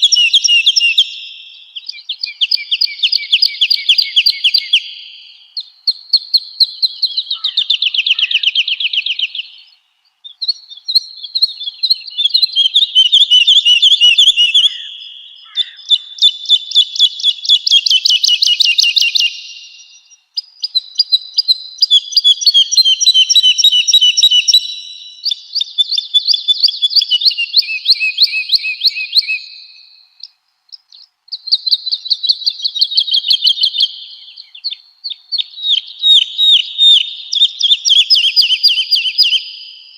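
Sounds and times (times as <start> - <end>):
woodlark singing: 0.0 - 39.9.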